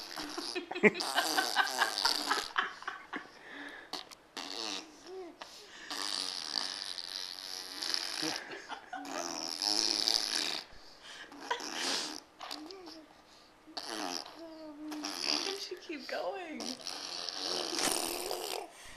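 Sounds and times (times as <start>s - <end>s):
baby blowing raspberries: 0.0s - 2.6s, 3.4s - 13.1s, 13.7s - 15.8s, 16.6s - 18.8s.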